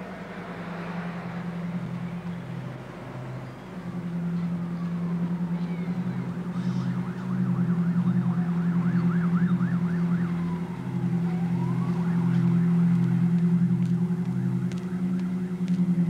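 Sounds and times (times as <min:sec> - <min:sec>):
emergency vehicle siren: 0:00.0 - 0:16.0
low throbbing hum: 0:00.0 - 0:16.0.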